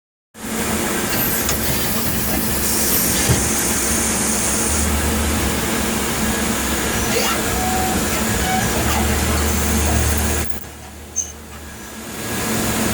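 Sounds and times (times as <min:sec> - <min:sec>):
high machine whine: 0:00.4 - 0:12.9
lathe machine running: 0:00.4 - 0:12.9.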